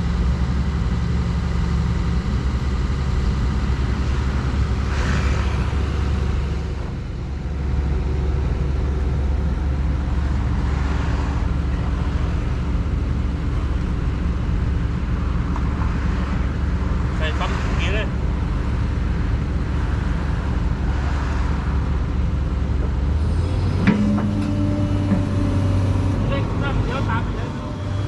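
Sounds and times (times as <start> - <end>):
diesel engines droning: 0.0 - 28.0.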